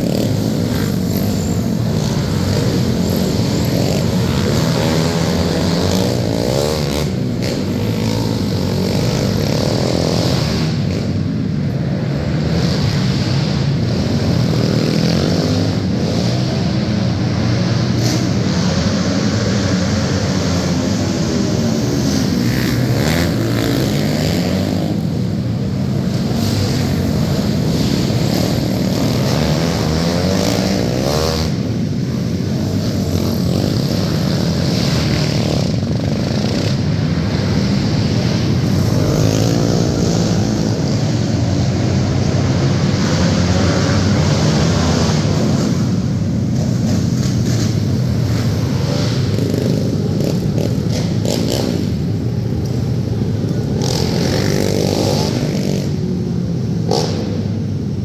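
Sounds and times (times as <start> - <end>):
distant quad engines droning: 0.0 - 58.0
quad engines revving: 0.0 - 58.0.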